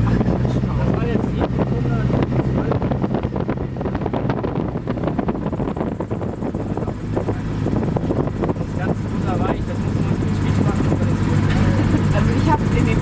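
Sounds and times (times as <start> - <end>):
piston aircraft engine running: 0.0 - 13.0
wind noise on microphone: 0.0 - 13.0.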